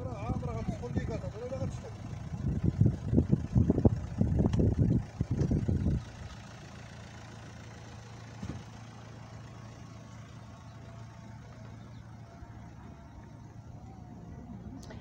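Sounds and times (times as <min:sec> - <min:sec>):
engine idling hum: 0:00.0 - 0:15.0.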